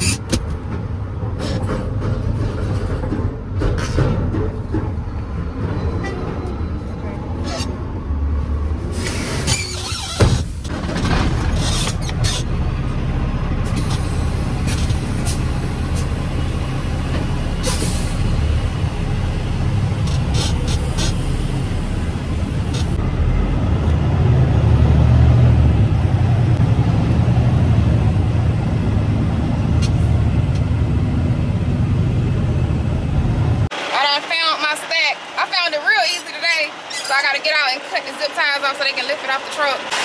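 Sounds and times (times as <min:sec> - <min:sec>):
truck engine and road noise: 0:00.0 - 0:40.0.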